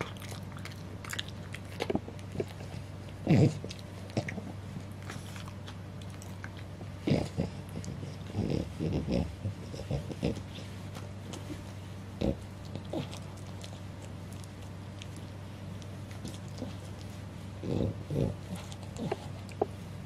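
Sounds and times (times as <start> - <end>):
dog licking and snuffling: 0.0 - 20.0
dog snorting breaths: 1.8 - 20.0.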